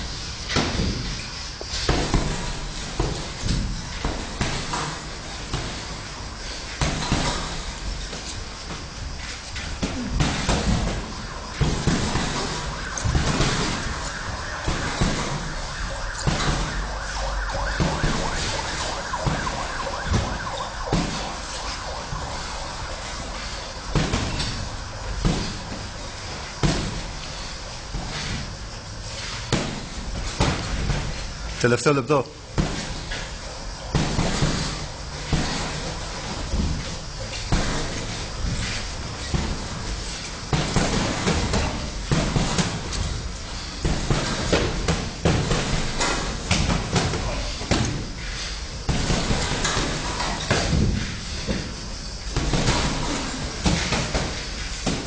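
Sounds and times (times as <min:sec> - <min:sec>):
punches thudding on pads: 0:00.4 - 0:31.5, 0:32.5 - 0:55.0.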